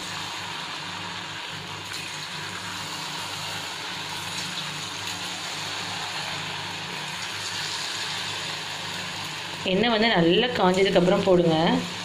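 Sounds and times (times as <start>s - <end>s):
dough sizzling in hot oil: 0.0s - 12.0s.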